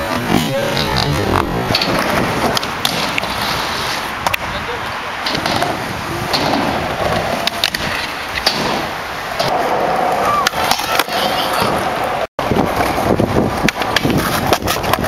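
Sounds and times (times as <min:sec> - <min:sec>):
skateboard clacking: 0:00.0 - 0:15.0
skateboard wheels rolling: 0:00.0 - 0:15.0.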